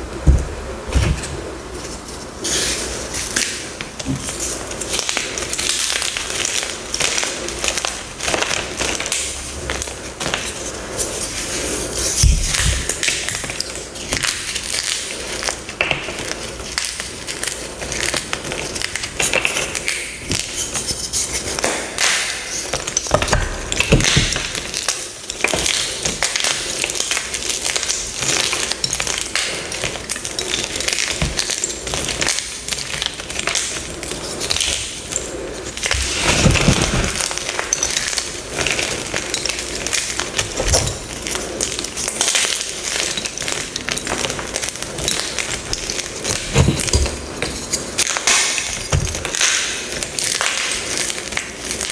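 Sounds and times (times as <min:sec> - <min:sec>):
chalk blocks crunching: 0:07.8 - 0:51.9.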